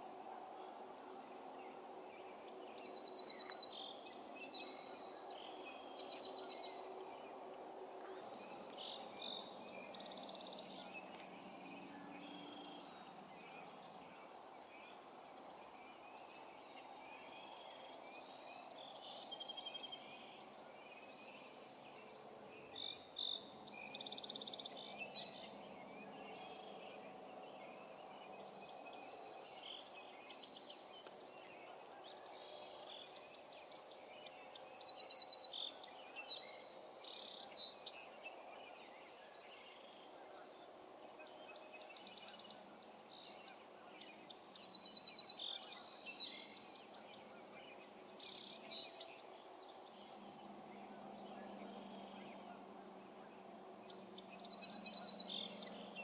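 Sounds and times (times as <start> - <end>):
faint distant hum: 0.0 - 56.0
songbirds singing: 0.0 - 56.0.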